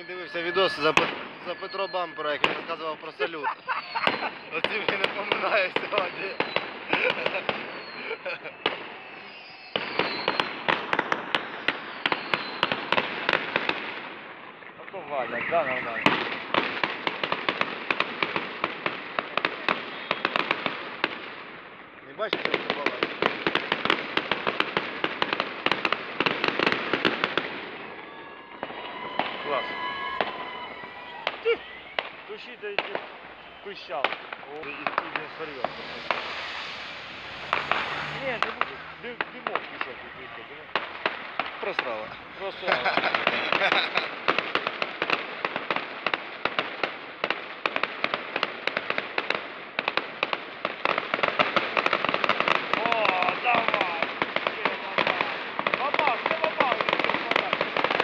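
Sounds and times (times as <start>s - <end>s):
fireworks crackling overhead: 0.0s - 58.0s.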